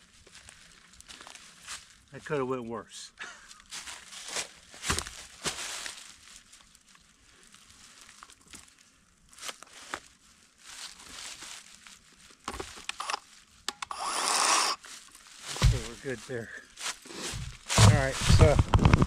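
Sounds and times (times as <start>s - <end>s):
footsteps crunching through dry leaves: 0.0s - 2.1s, 3.6s - 13.6s, 14.8s - 19.0s.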